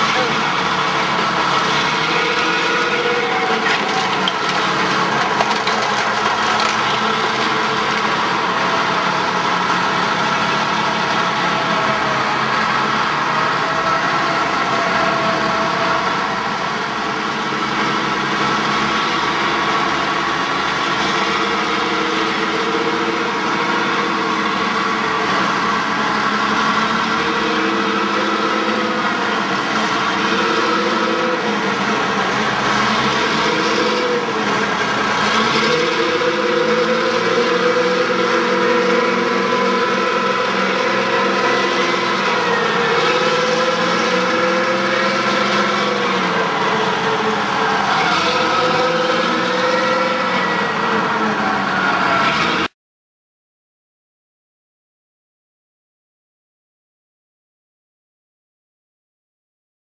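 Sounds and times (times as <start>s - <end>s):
diesel engines idling: 0.0s - 52.7s.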